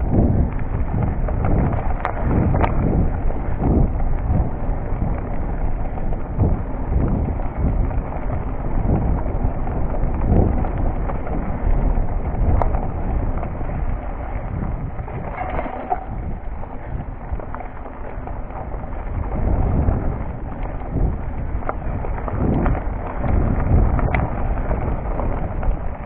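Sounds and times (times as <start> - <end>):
bike knocking and rattling: 0.0 - 26.0
tyres rumbling on dirt: 0.0 - 26.0.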